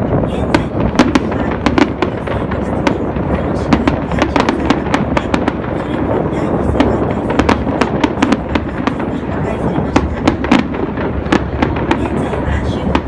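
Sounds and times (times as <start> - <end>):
fireworks cracking and popping: 0.0 - 13.0
rumble of firework bursts: 0.0 - 13.0.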